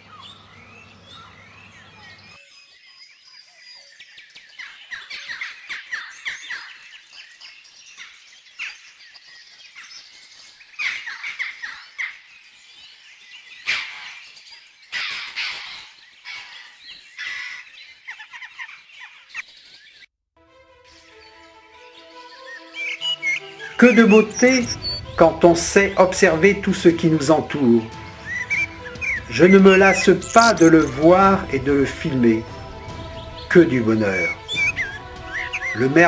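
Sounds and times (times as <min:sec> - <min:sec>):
small birds chirping: 0:00.0 - 0:20.1, 0:20.9 - 0:36.0.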